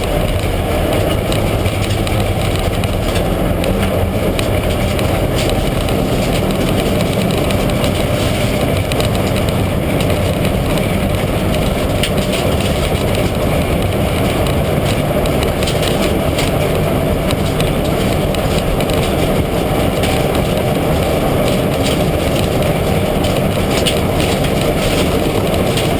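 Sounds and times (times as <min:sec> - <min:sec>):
rally car engine rumbling: 0:00.0 - 0:25.9.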